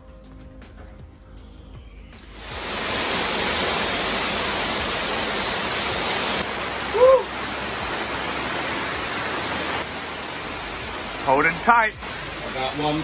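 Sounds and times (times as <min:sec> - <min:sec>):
rain on plastic sheeting: 0:02.4 - 0:13.0.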